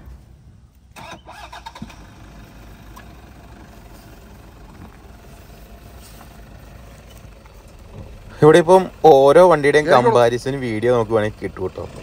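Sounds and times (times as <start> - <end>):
engine running at low revs: 1.5 - 12.0.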